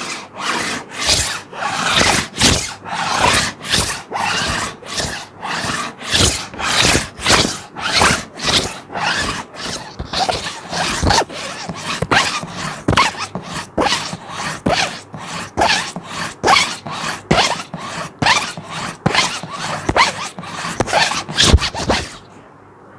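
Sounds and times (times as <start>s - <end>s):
plastic sheet being scratched: 0.0s - 22.3s.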